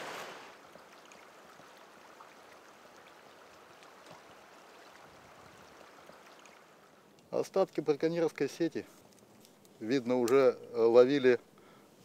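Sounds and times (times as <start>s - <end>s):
faint rush of river water: 0.0s - 12.0s.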